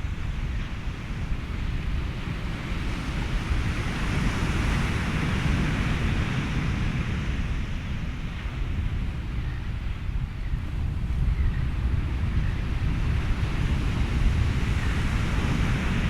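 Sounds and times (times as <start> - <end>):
ocean waves: 0.0 - 10.0, 11.8 - 16.0
wind: 0.0 - 16.0.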